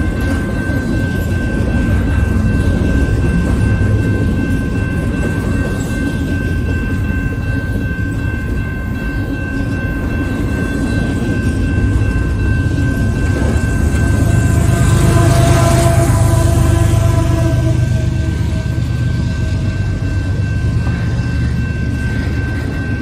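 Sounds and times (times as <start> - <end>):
steady high tone: 0.0 - 23.0
train wheels rumbling on rail: 0.0 - 23.0.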